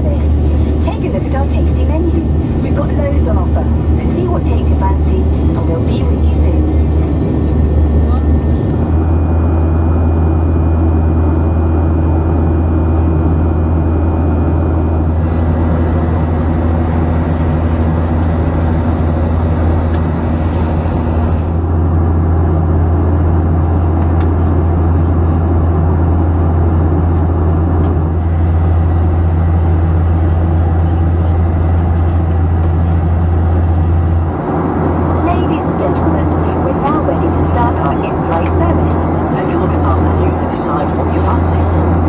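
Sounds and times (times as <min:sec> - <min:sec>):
jet engine drone in cabin: 0:00.0 - 0:42.0.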